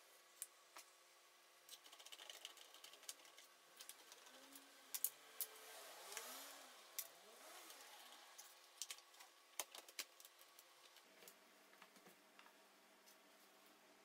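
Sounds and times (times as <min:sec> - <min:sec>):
laptop and tools clicking: 0:01.7 - 0:13.2.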